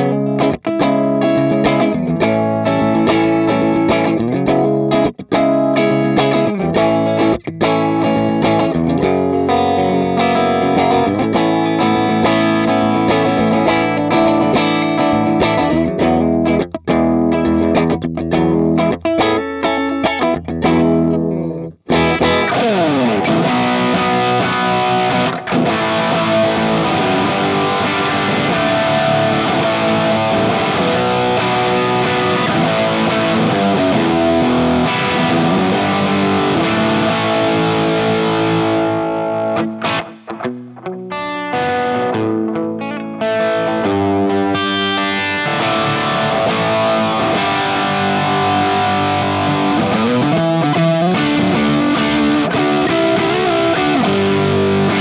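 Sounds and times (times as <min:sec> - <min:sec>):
distorted electric guitar riffing: 0:00.0 - 0:55.0.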